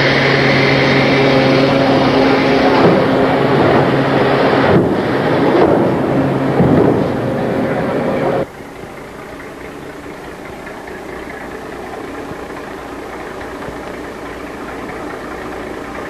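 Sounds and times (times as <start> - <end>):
faint steady tones: 0.0 - 16.0
loud sound cutting off: 0.0 - 16.0
machinery humming: 0.0 - 16.0.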